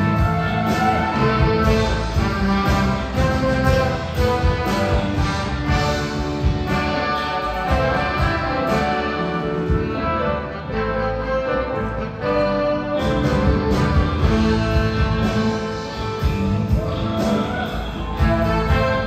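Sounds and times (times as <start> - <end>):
drums: 0.0 - 19.0
held orchestral chords: 0.0 - 19.0.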